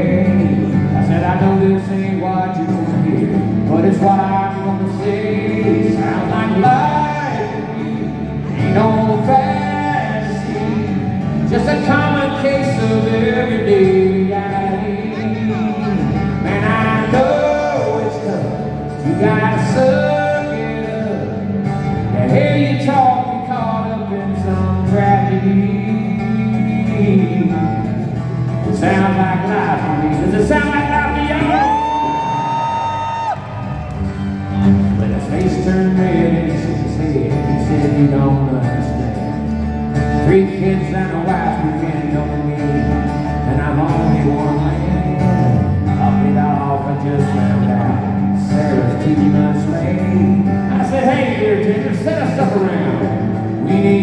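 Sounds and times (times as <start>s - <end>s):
man singing: 0.0s - 33.6s, 34.6s - 54.0s
live country band playing: 0.0s - 54.0s.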